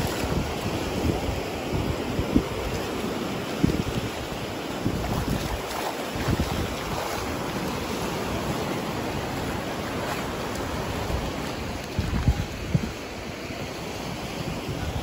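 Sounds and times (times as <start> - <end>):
ocean surf breaking on shore: 0.0 - 15.0
wind buffeting microphone: 0.0 - 15.0.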